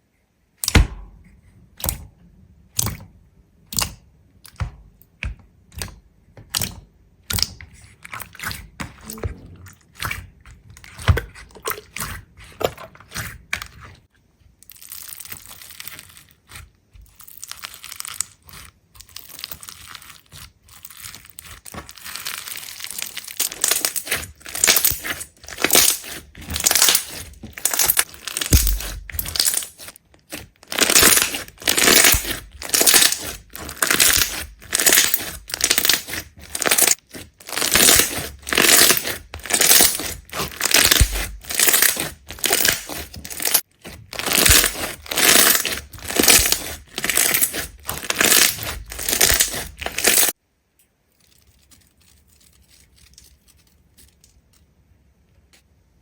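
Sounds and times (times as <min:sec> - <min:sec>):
crisp crunching and crackling: 0:07.4 - 0:50.4, 0:51.1 - 0:54.7.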